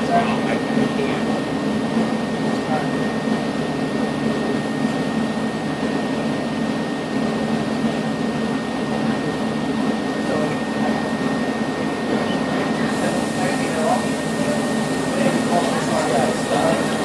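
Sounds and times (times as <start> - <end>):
shop machinery drone: 0.0 - 17.0
thin steady whine: 0.0 - 17.0.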